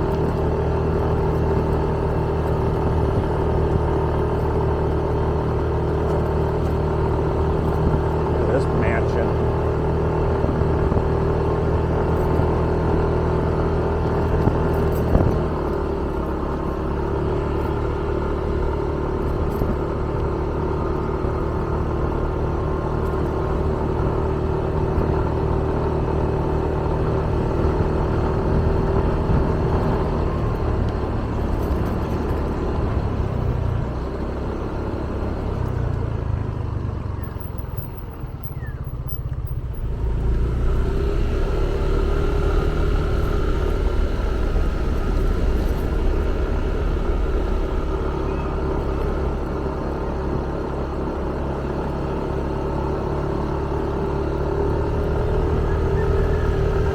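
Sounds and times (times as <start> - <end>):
motorbike engine running: 0.0 - 51.1, 54.6 - 56.9.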